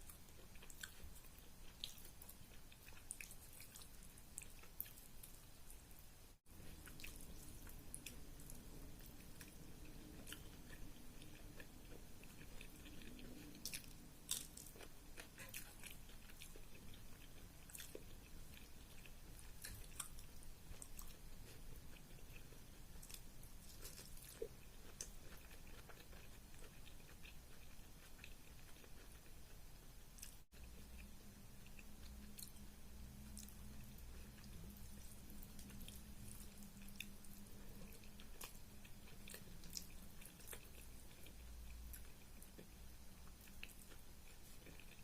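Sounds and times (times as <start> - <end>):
person chewing food: 0.0 - 5.8, 6.5 - 32.6, 33.2 - 45.0.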